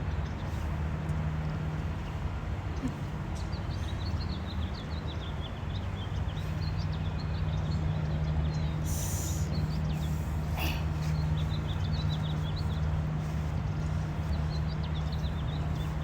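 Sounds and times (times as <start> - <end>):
low mechanical hum: 0.0 - 16.0
small birds chirping: 0.1 - 16.0.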